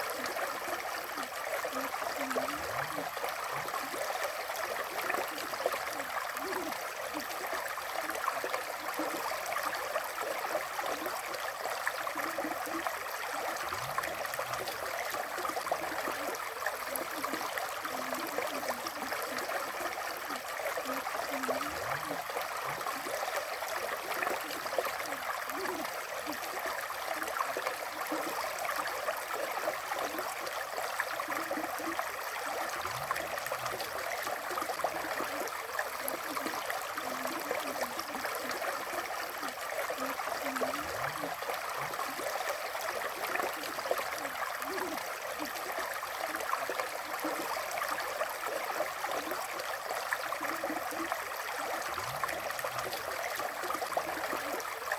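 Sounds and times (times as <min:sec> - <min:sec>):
river water flowing: 0:00.0 - 0:54.9
water bubbling and gurgling: 0:00.0 - 0:54.9.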